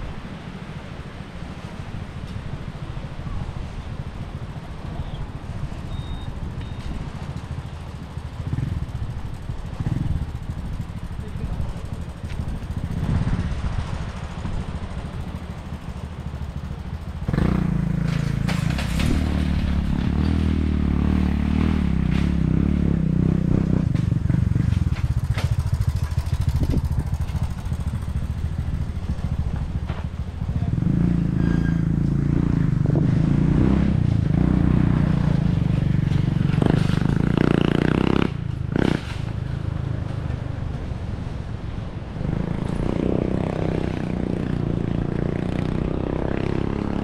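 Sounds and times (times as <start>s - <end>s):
low outdoor rumble: 0.0s - 47.0s
motorbike engine running: 2.4s - 47.0s.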